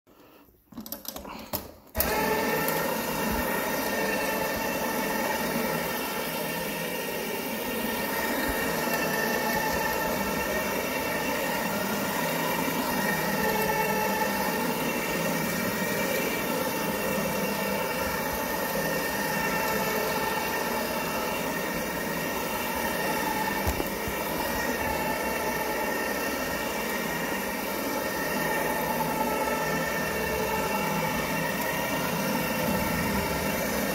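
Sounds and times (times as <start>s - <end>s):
carpet cleaning machine humming: 0.1s - 33.9s.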